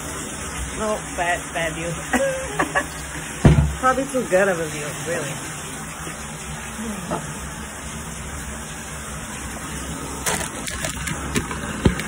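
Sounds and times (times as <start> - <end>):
shower water running: 0.0 - 12.0.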